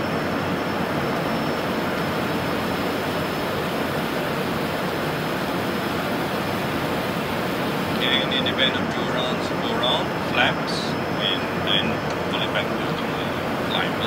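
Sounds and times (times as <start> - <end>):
aircraft engine noise: 0.0 - 14.0
faint high whine: 0.0 - 14.0
airflow rushing: 0.8 - 14.0.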